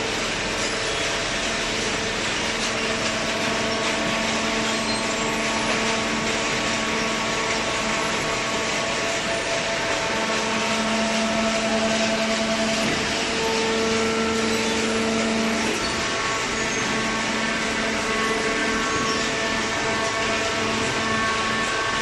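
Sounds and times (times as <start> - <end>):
hydraulic baler running: 0.0 - 22.0.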